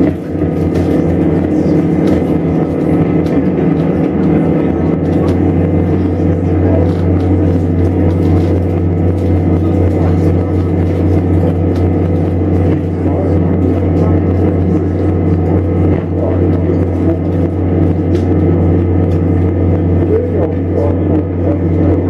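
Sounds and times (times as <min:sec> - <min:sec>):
low droning electronic rumble: 0:00.0 - 0:22.0.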